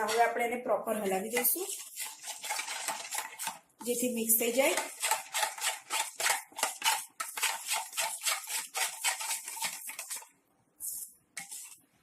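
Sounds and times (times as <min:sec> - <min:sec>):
utensil scraping a bowl: 0:00.0 - 0:00.4, 0:01.2 - 0:10.3, 0:11.4 - 0:11.8.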